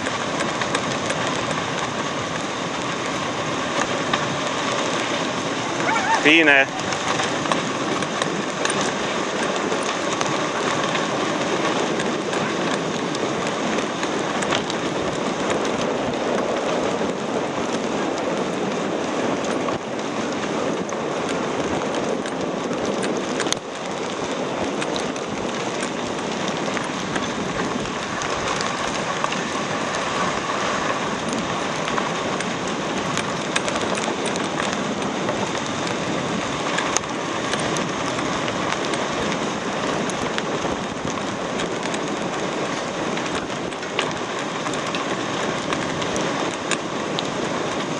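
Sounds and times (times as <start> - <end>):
sled runners hissing over snow: 0.0 - 47.9.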